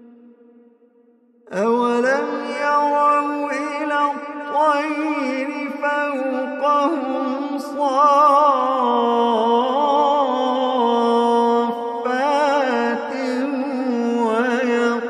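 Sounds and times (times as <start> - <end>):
man chanting melodically: 1.5 - 15.0.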